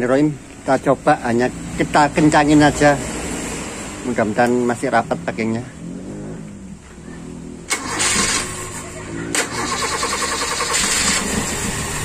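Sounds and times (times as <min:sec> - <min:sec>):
car engine cranking and running: 0:00.0 - 0:12.0.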